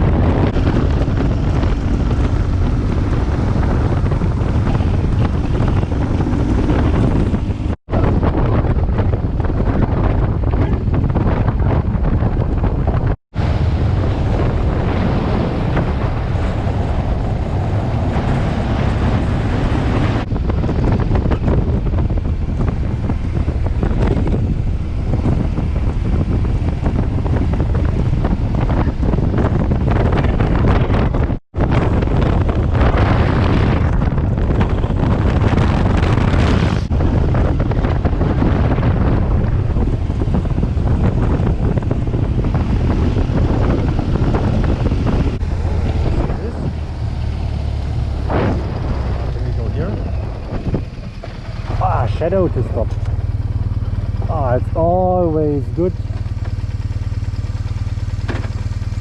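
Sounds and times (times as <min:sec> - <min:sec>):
motorcycle engine drone: 0:00.0 - 0:59.0
wind buffeting microphone: 0:00.0 - 0:59.0.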